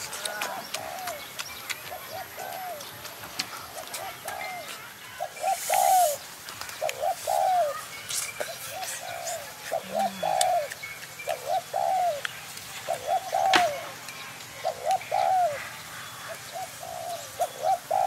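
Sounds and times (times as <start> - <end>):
bird calling: 0.0 - 18.0.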